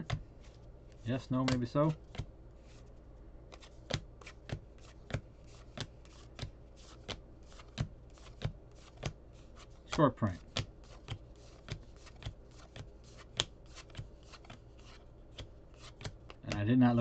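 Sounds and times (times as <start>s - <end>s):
soft card sliding: 0.4s - 9.9s, 10.6s - 16.2s.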